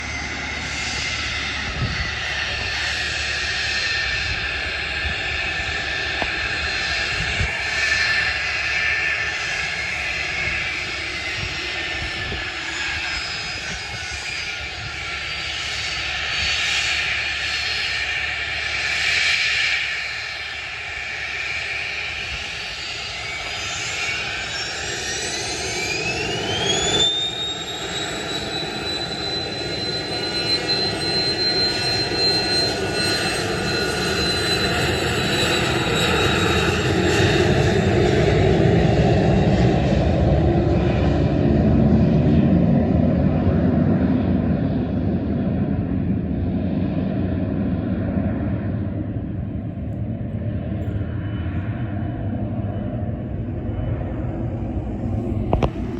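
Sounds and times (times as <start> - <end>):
jet engines whining: 0.0 - 55.9
jet roar: 0.0 - 55.9.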